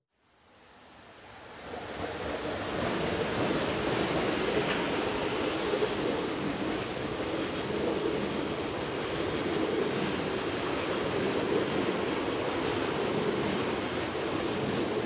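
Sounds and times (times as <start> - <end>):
freight train approaching: 0.6 - 15.0.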